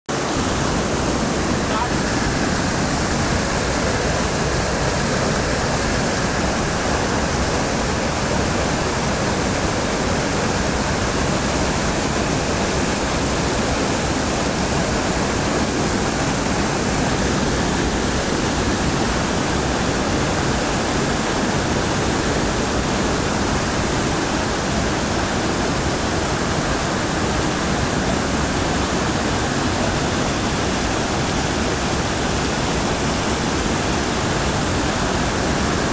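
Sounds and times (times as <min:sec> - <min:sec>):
whitewater rushing: 0:00.1 - 0:35.9.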